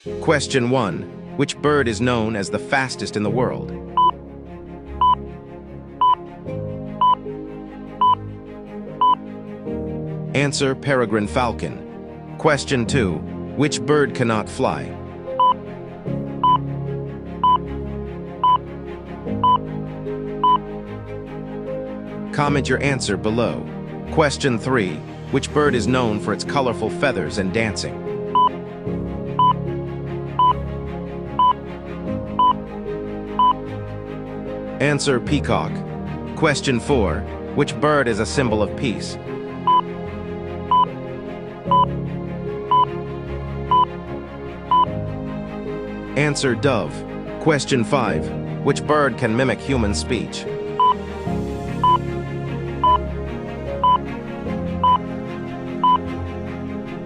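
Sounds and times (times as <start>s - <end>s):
soft background music: 0.0s - 57.0s.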